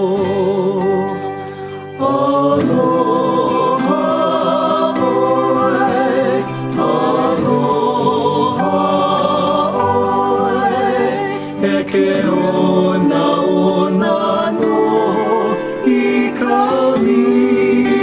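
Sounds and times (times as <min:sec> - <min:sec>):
choir singing slow song: 0:00.0 - 0:18.0.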